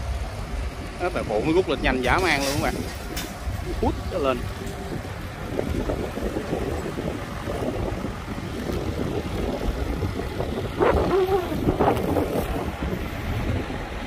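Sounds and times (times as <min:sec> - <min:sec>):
diesel crane engine running: 0:00.0 - 0:14.0
wind buffeting microphone: 0:00.0 - 0:14.0.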